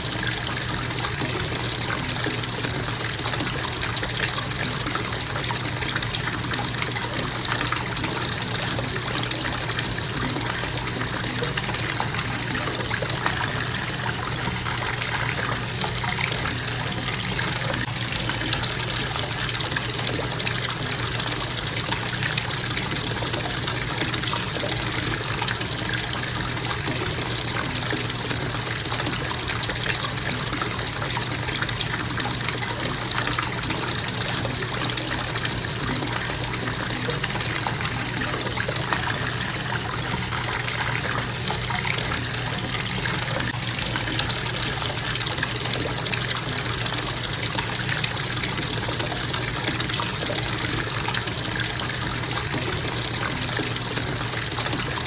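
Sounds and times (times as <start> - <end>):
faucet water splashing into tub: 0.0 - 55.0.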